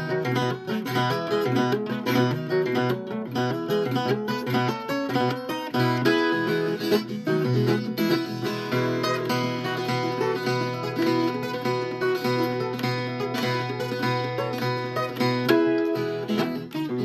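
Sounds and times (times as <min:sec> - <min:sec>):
plucked guitar notes: 0:00.0 - 0:17.0.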